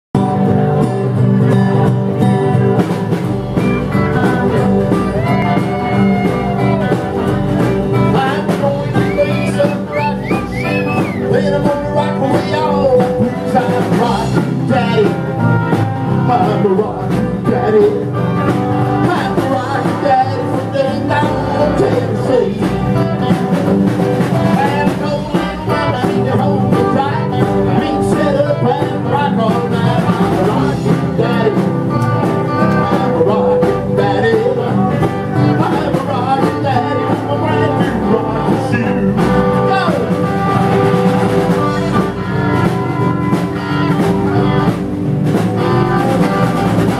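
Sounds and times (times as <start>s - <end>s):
rockabilly band playing: 0.1s - 46.9s.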